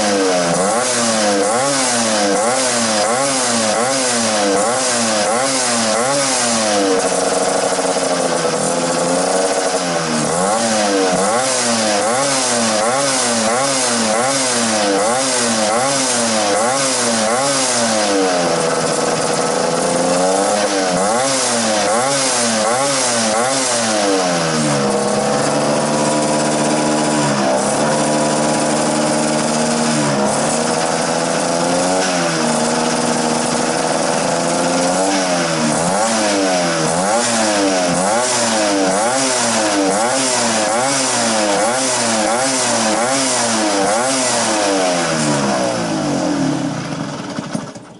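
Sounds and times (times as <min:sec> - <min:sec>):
scooter engine revving: 0:00.0 - 0:47.9.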